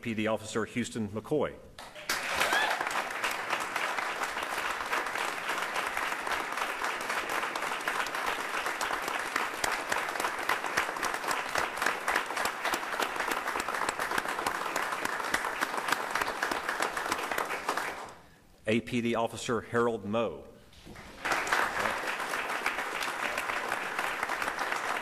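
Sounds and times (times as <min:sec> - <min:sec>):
audience applause: 0:02.0 - 0:18.2, 0:20.9 - 0:25.0.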